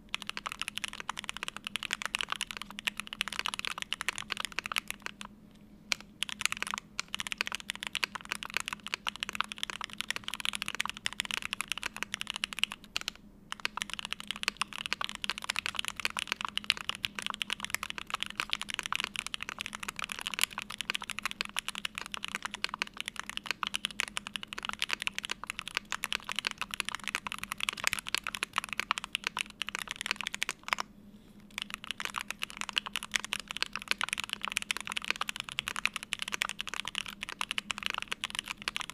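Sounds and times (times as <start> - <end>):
fast typing on mechanical keyboard: 0.0 - 5.3, 5.9 - 30.9, 31.5 - 38.9.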